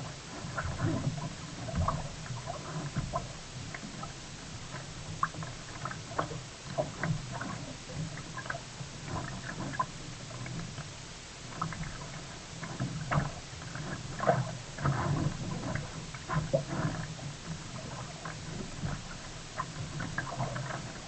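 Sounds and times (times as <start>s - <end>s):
water splashing around kayak: 0.0s - 21.0s.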